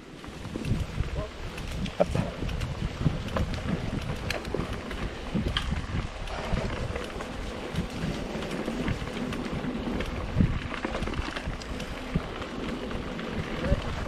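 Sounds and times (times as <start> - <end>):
bike rattling and knocking: 0.0 - 14.0
wind buffeting microphone: 0.0 - 14.0.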